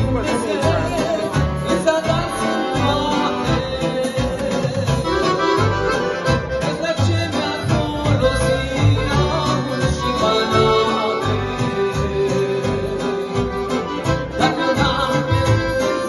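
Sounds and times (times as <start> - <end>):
accordion: 0.0 - 16.0
electronic keyboard: 0.0 - 16.0
steady bass beat: 0.0 - 16.0.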